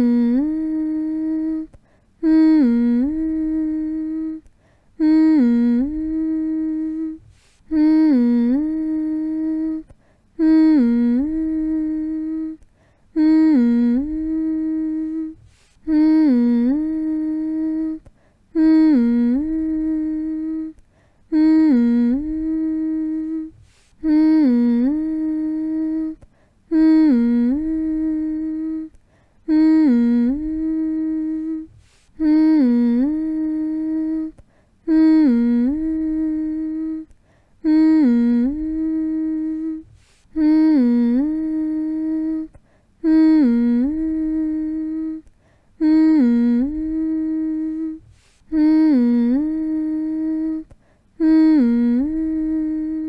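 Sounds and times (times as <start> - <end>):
person humming: 0.0 - 53.0.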